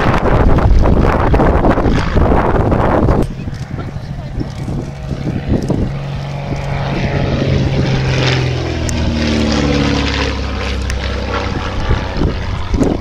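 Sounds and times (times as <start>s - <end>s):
propeller plane droning past: 0.0s - 13.0s.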